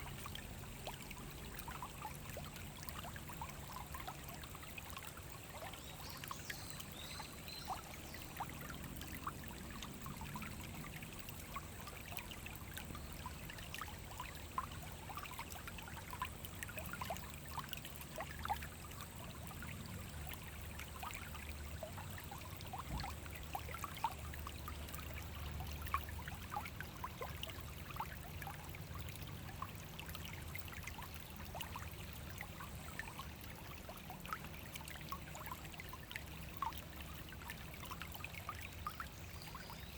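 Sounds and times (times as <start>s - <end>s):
brook flowing over stones: 0.0s - 39.9s.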